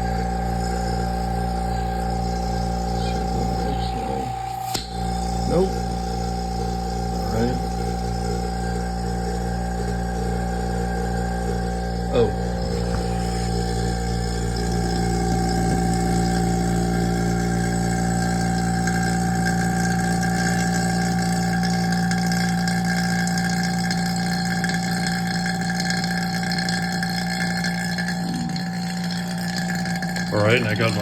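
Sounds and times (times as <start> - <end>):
electric vacuum pump humming: 0.0 - 31.0.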